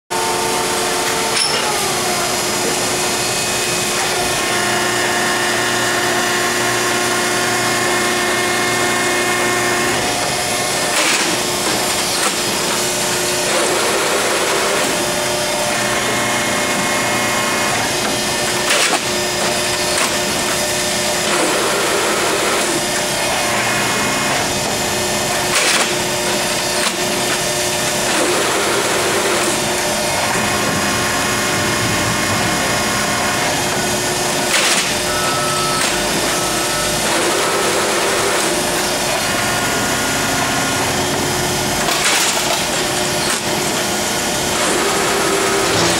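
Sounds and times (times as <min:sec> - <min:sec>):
hydraulic pump whine: 0:00.1 - 0:45.9.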